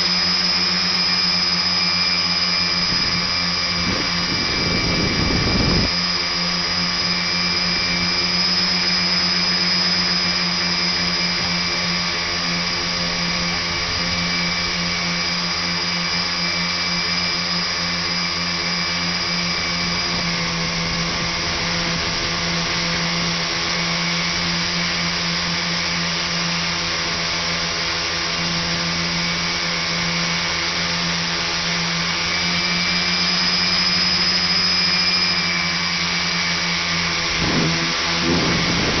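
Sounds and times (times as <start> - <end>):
drone motors whining: 0.0 - 39.0.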